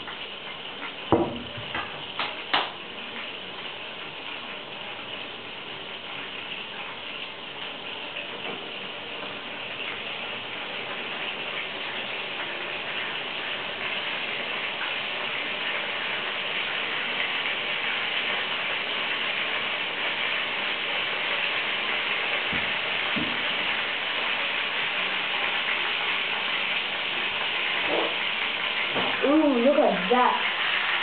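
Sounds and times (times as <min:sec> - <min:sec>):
food sizzling in oil: 0:00.0 - 0:31.0.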